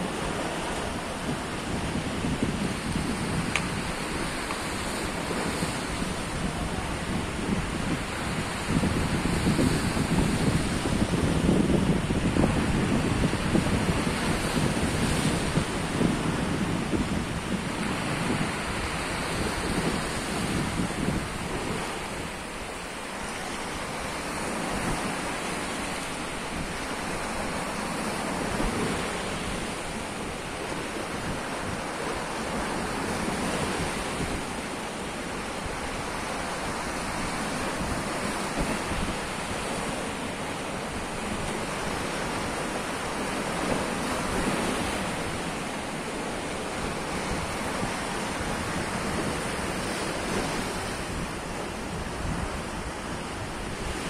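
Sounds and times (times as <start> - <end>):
sea surf washing over rock: 0.0 - 54.0.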